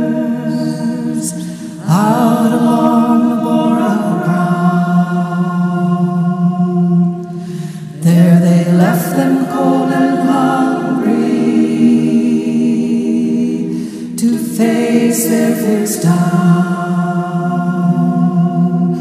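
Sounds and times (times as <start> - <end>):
wordless choir singing: 0.0 - 19.0.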